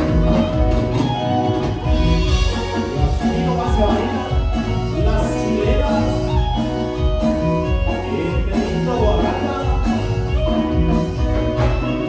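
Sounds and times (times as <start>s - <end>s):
band playing upbeat music: 0.0s - 12.0s
strong bass line: 0.0s - 12.0s.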